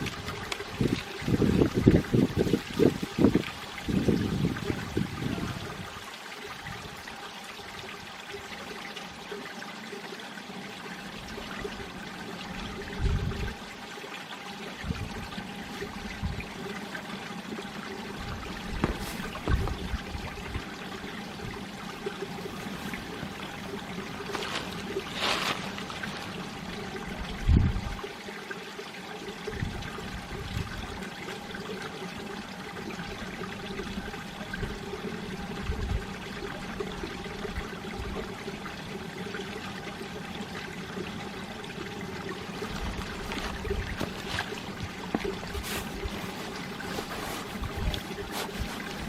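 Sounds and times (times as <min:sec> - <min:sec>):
stream trickling over rocks: 0:00.0 - 0:49.0.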